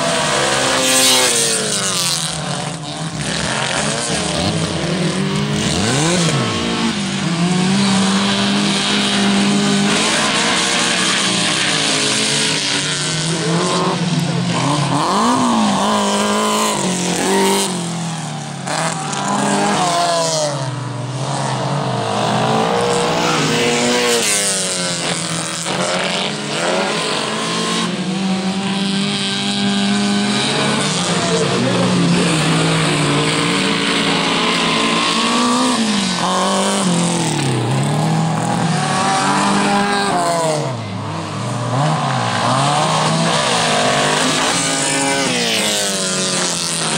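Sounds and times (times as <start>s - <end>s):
race car engines revving: 0.0s - 46.9s.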